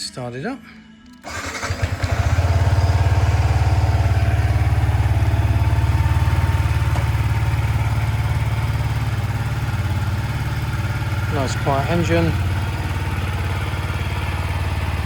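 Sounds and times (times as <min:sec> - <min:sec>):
motorcycle engine idling: 0:01.3 - 0:15.0.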